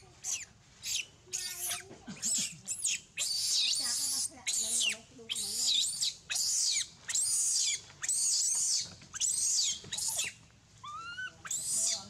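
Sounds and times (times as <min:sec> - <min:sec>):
baby monkey screaming: 0:00.2 - 0:12.0.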